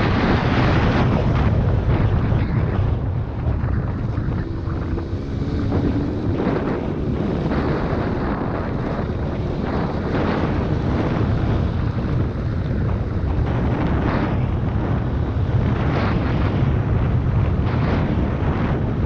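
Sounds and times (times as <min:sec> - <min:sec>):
steady low rumble: 0:00.0 - 0:19.0
wind buffeting the microphone: 0:00.0 - 0:19.0.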